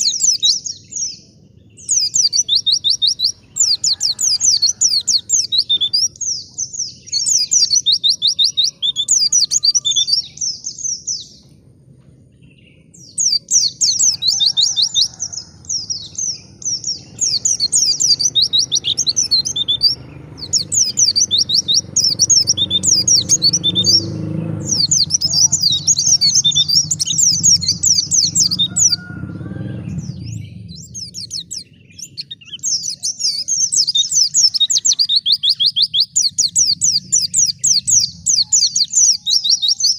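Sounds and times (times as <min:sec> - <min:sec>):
white-eye singing chattering phrases: 0:00.0 - 0:39.9.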